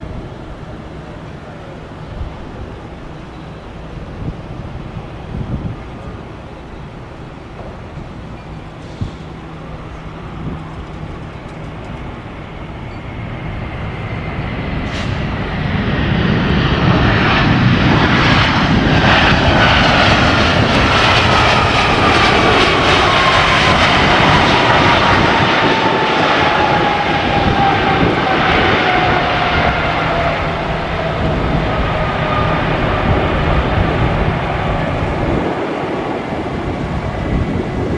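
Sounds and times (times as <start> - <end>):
jet airliner roaring past: 0.0 - 37.9.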